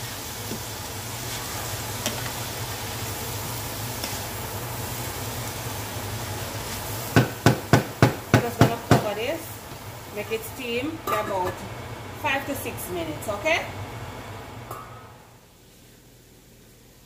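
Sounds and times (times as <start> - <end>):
vegetables sizzling in a skillet: 0.0 - 13.9.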